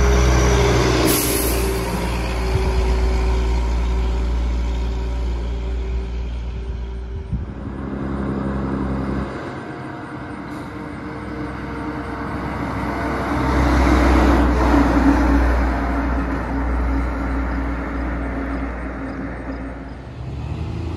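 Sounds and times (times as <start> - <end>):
dump trucks driving by: 0.0 - 20.9.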